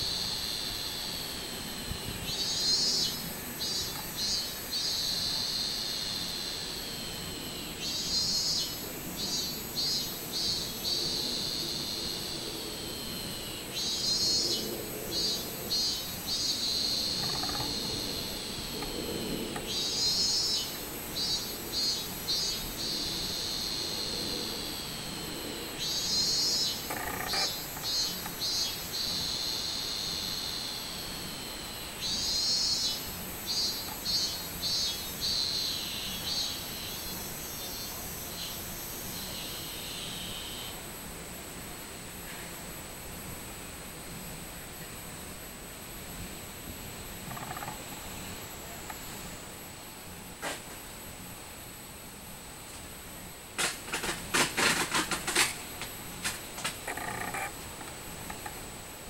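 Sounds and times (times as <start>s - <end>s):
cicada singing: 0.0s - 59.0s.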